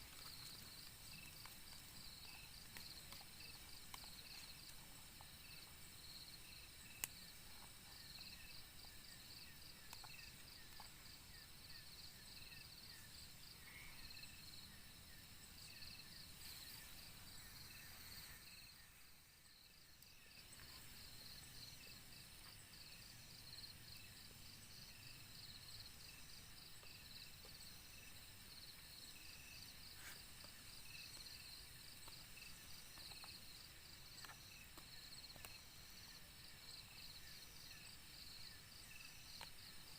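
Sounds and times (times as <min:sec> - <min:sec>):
forest insects chirping: 0:00.0 - 0:39.9
low hiss: 0:00.0 - 0:39.9.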